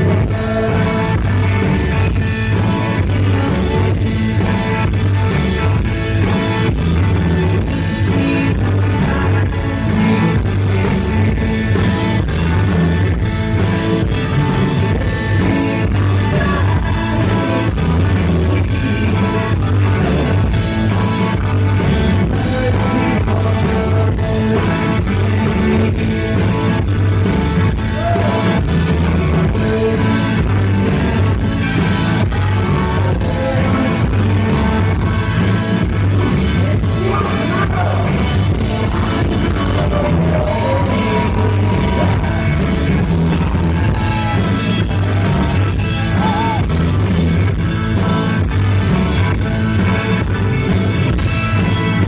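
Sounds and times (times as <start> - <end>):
person singing: 0.0 - 49.3
bass guitar: 0.0 - 52.0
drums: 0.0 - 52.0
electric guitar: 0.0 - 52.0.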